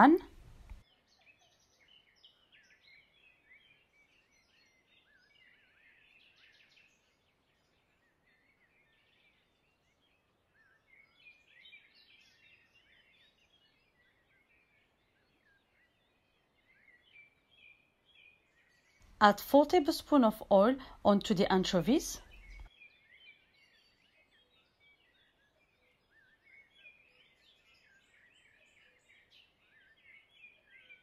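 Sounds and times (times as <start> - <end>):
faint birds chirping: 0.0 - 31.0.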